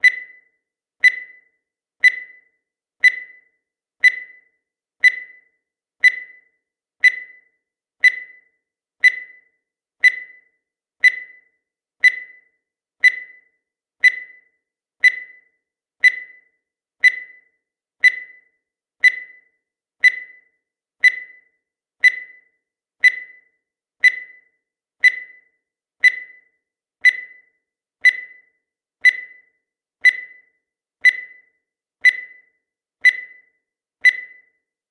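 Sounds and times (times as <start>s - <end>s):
high timer ticks: 0.0s - 34.9s.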